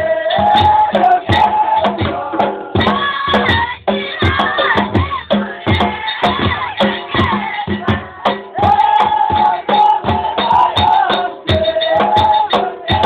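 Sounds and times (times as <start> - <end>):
men singing together: 0.0 - 13.0
sharp percussion beats: 0.0 - 13.0.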